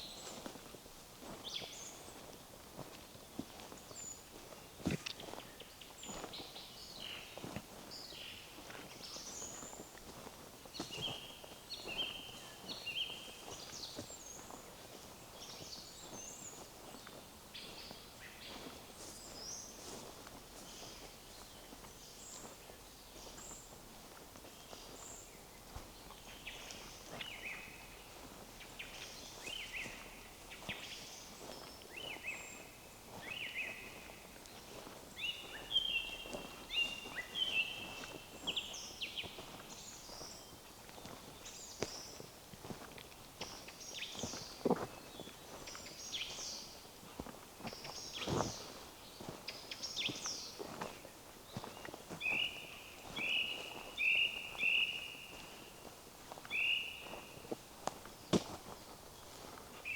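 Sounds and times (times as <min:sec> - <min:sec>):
footsteps on forest path: 0:00.0 - 0:59.9
songbirds singing: 0:00.0 - 0:59.9.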